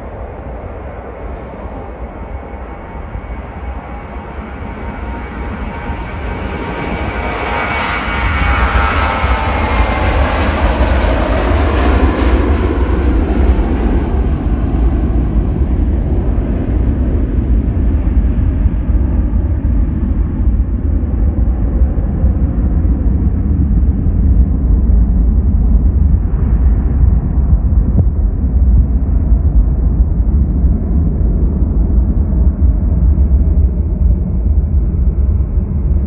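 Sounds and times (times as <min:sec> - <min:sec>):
aircraft low rumble: 0:00.0 - 0:36.0
airliner engine whine: 0:00.0 - 0:36.0.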